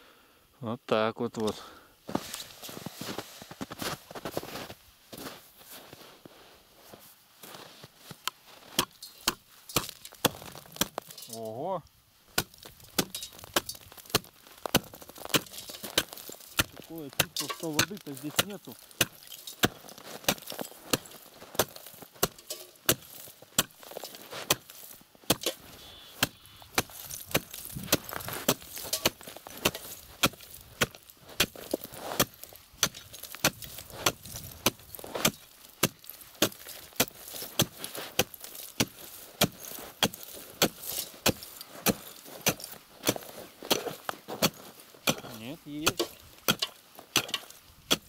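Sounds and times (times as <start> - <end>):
ice chisel striking ice: 8.6 - 11.6, 12.3 - 48.0.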